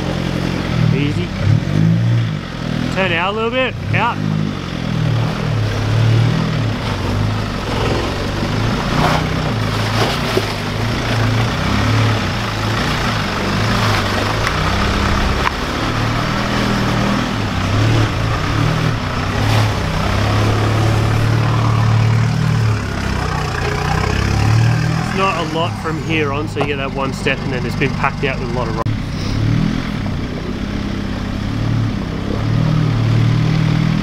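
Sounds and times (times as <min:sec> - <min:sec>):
off-road vehicle engine low revs: 0:00.0 - 0:34.0.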